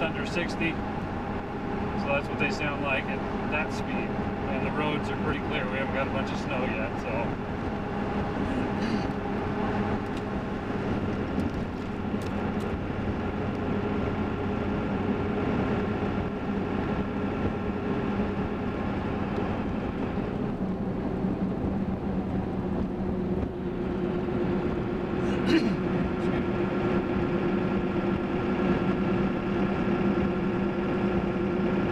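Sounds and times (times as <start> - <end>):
diesel engine running: 0.0 - 31.9
tire road noise hum: 0.0 - 31.9
wind through car window: 0.0 - 31.9.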